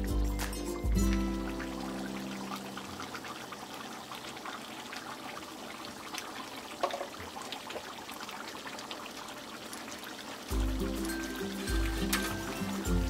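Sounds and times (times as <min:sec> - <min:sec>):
thick gravy bubbling: 0:00.9 - 0:13.0.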